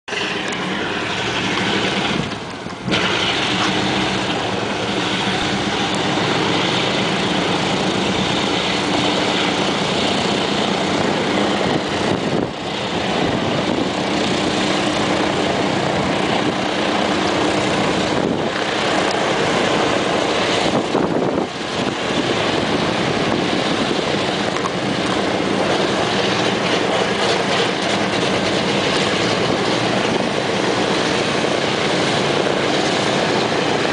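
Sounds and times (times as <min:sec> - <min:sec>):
radial aircraft engines idling: 0:00.1 - 0:33.9.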